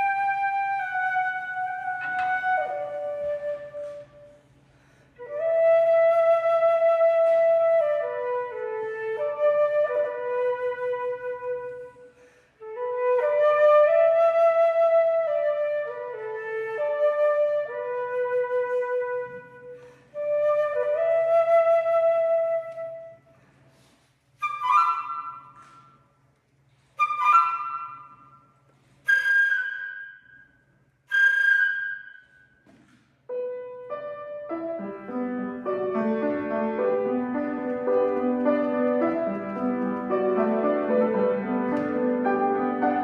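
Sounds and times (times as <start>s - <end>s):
solo flute melody: 0.0s - 4.5s, 5.2s - 23.3s, 24.4s - 26.2s, 26.9s - 32.6s, 33.3s - 43.0s.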